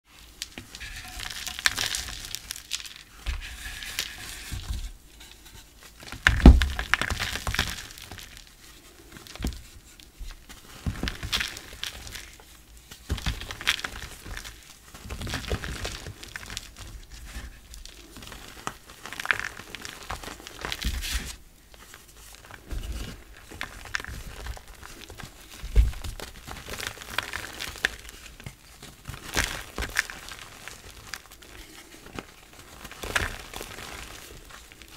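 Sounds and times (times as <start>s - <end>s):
chalk crunching and crackling: 0.1s - 34.9s.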